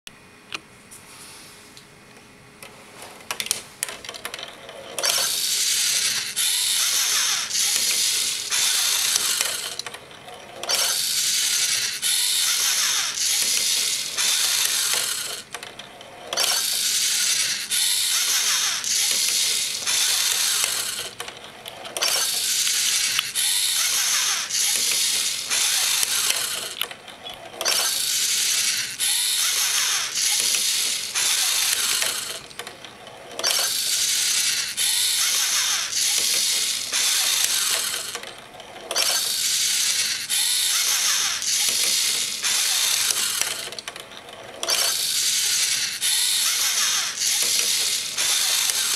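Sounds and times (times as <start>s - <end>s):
servo motors whirring and grinding: 5.0s - 9.9s, 10.6s - 15.5s, 16.3s - 32.5s, 33.4s - 38.2s, 38.9s - 43.8s, 44.6s - 48.9s.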